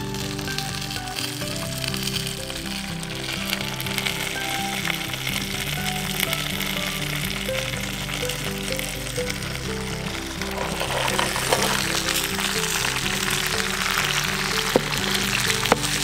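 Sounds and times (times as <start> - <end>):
background music: 0.0 - 16.0
chicken sizzling in a skillet: 0.0 - 16.0.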